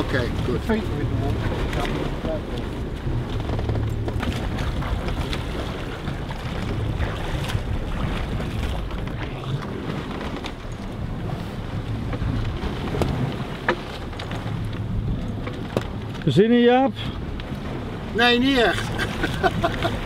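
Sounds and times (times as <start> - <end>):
boat engine humming: 0.0 - 20.0
sea sounds: 0.0 - 20.0.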